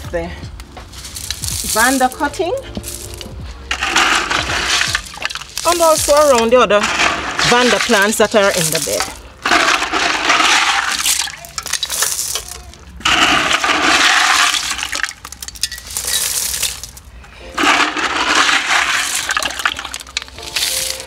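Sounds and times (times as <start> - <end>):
gravel pouring and clattering: 0.9 - 21.0.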